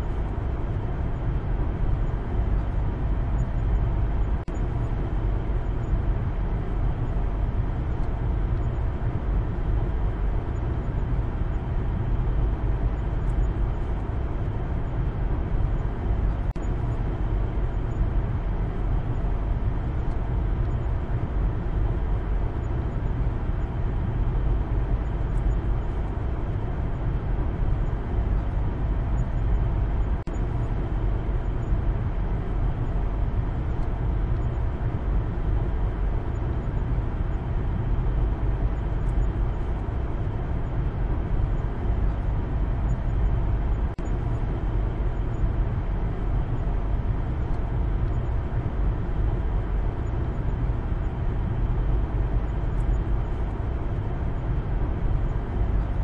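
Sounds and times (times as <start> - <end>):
road and engine noise in car cabin: 0.0 - 56.0.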